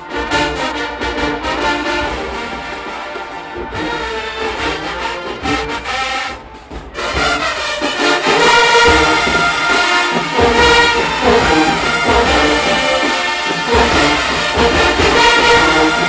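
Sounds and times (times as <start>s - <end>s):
marching band brass playing: 0.0s - 16.0s.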